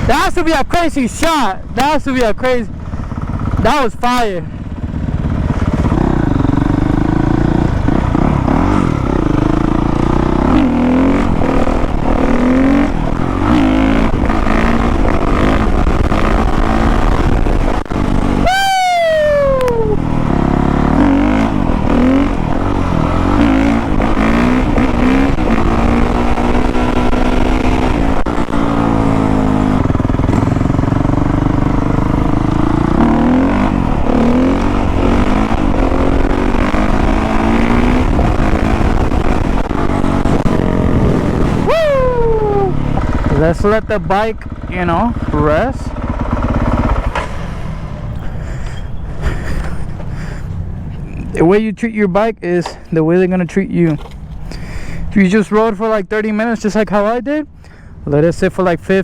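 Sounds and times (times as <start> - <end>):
motocross bike engine running hard: 1.4 - 51.4.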